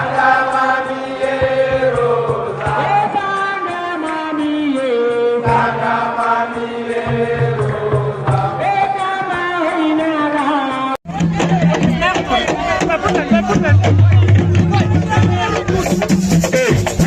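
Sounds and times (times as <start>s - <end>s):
voices chanting in long held notes: 0.0s - 17.0s.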